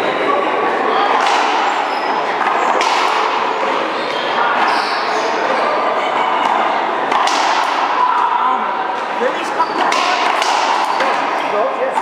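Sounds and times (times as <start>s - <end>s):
steady background noise: 0.0s - 12.0s
racquetball bouncing and struck: 0.9s - 8.2s, 9.0s - 11.5s.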